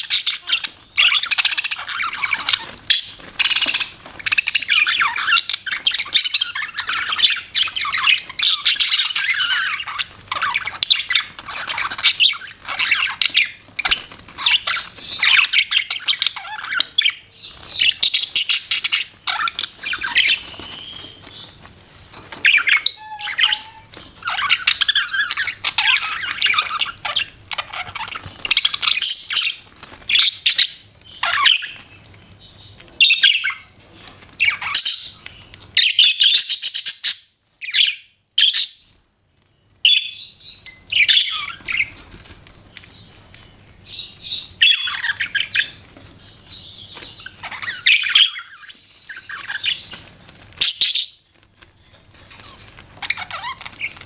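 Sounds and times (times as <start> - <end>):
budgerigars chattering: 0.0 - 21.6, 22.4 - 31.9, 32.6 - 33.7, 34.4 - 35.2, 35.8 - 38.9, 39.9 - 42.0, 43.8 - 50.0, 50.6 - 51.2, 52.3 - 54.0.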